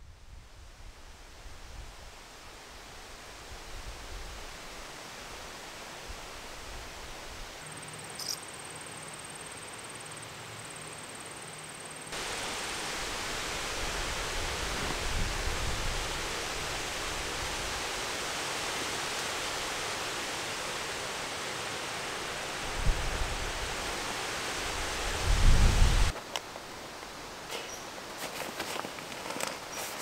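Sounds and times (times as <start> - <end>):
rushing woodland ambience: 0.3 - 30.0.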